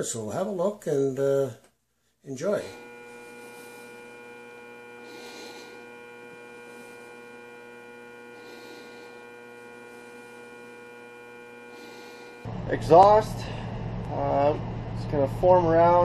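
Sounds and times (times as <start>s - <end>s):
electrical hum: 2.3s - 16.0s.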